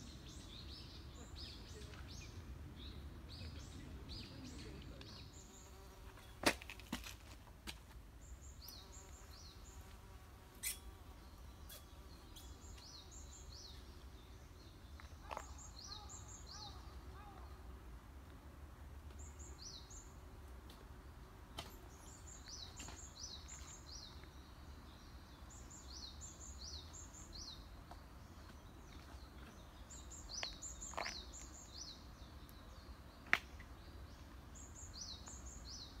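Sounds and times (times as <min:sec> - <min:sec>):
songbird singing: 0:00.0 - 0:06.4, 0:08.2 - 0:17.8, 0:19.0 - 0:36.0.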